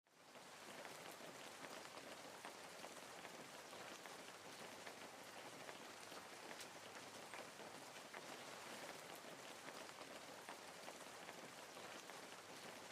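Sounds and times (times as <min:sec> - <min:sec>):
faint steady hiss: 0:00.2 - 0:12.9.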